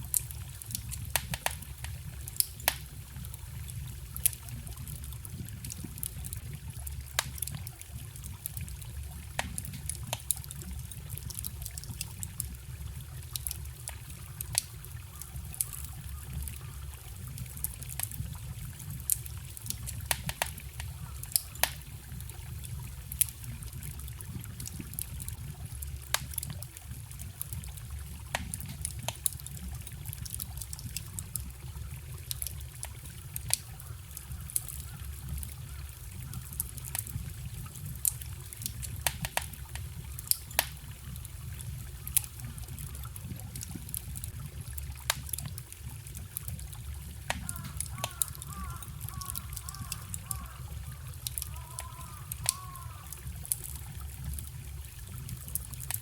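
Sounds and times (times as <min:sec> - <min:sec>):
stream water running: 0:00.0 - 0:56.0
wood fire crackling and popping: 0:00.0 - 0:56.0.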